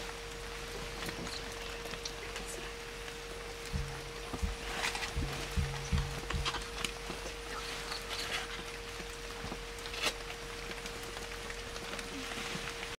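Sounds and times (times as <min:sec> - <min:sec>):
faint steady hum: 0:00.0 - 0:13.0
mud and plants crackling: 0:00.0 - 0:13.0.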